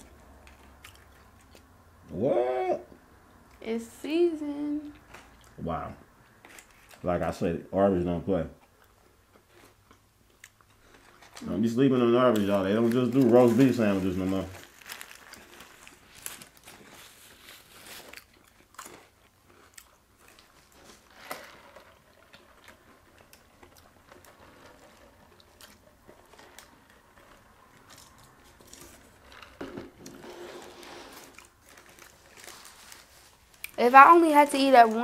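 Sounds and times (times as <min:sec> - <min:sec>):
chewing crispy fried sandwich: 0:00.0 - 0:01.8, 0:04.8 - 0:07.5, 0:08.3 - 0:30.1, 0:31.1 - 0:33.9.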